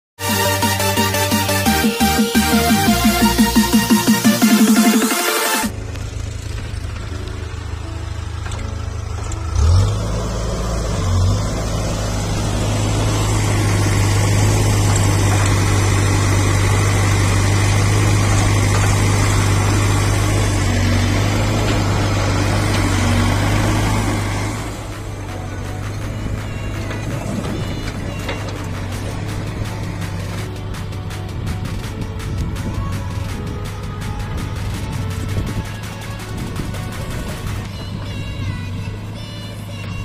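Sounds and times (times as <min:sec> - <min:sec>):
diesel engine running and revving: 0:00.2 - 0:40.0.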